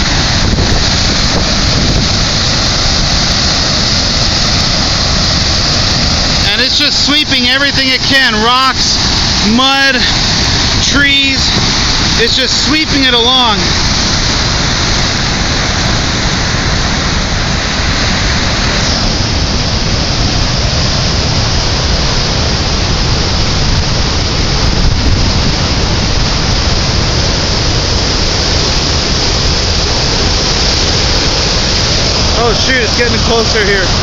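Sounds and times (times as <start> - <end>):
flood water rushing over rocks: 0.0 - 34.0.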